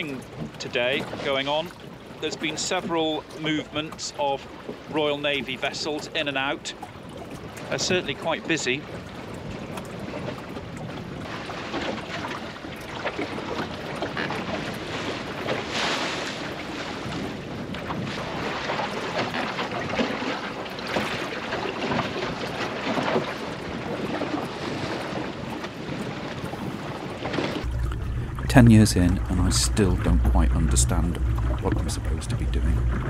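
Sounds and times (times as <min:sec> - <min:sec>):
water rushing along boat hull: 0:00.0 - 0:33.0.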